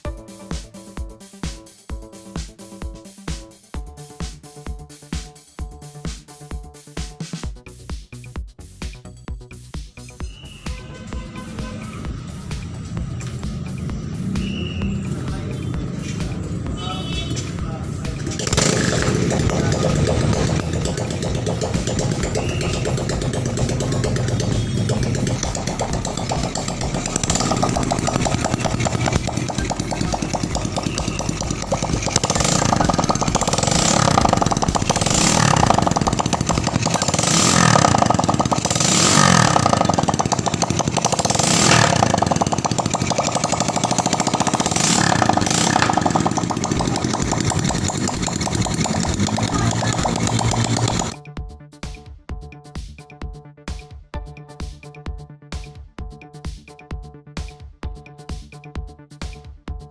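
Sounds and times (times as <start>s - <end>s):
motorcycle engine idling and revving: 1.9s - 52.0s.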